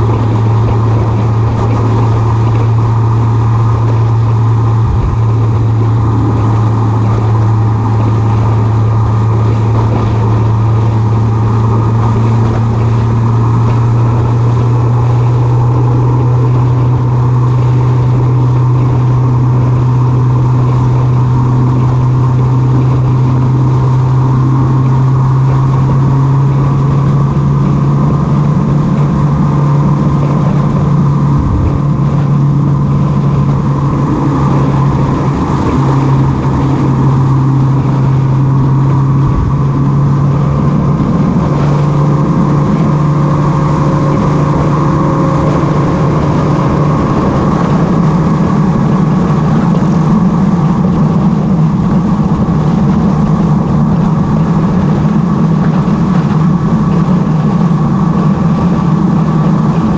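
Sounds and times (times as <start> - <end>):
motorcycle engine running: 0.0 - 59.9
road noise: 0.0 - 59.9
wind noise: 0.0 - 59.9.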